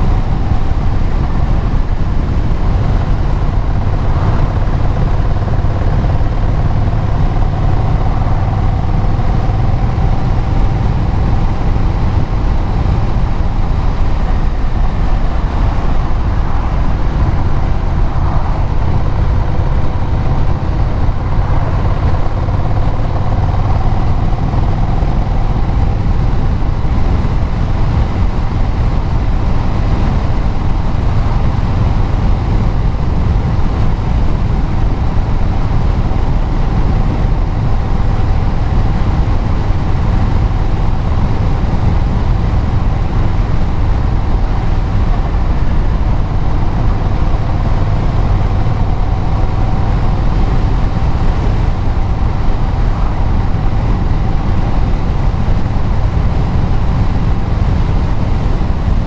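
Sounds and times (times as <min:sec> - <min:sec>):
tyre and road noise: 0:00.0 - 0:59.0
vehicle engine cruising: 0:00.0 - 0:59.0.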